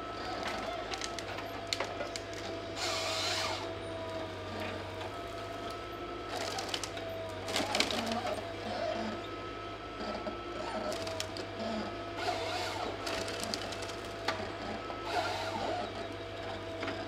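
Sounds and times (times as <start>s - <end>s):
harvester engine humming: 0.0s - 17.0s
hydraulic whine: 0.0s - 17.0s.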